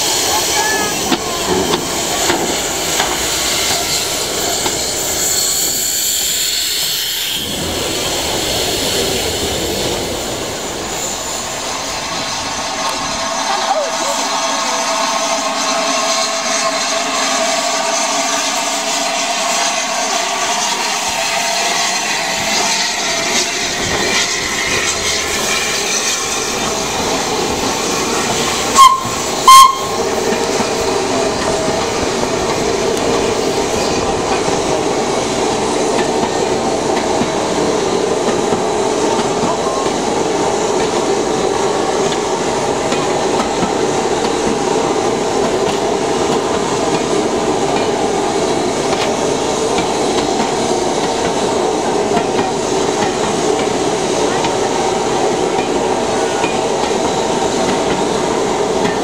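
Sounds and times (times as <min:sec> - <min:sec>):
steam hissing: 0:00.0 - 0:59.0
steam train rolling past: 0:00.0 - 0:59.0
steel wheels on rails: 0:00.0 - 0:59.0.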